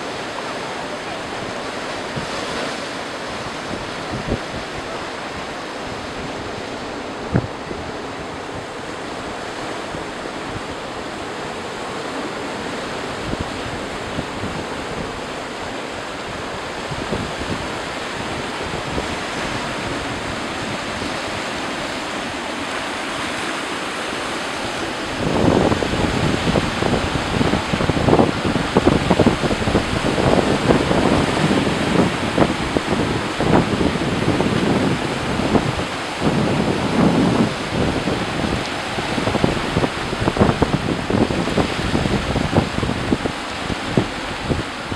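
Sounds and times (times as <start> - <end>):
surf washing over rocks: 0.0 - 44.9
wind on microphone: 0.0 - 44.9.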